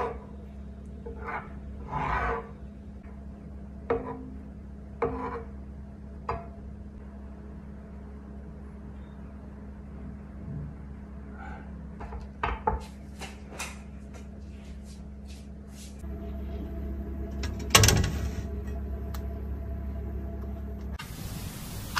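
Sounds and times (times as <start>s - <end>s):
low hum: 0.0s - 12.4s, 13.4s - 21.9s.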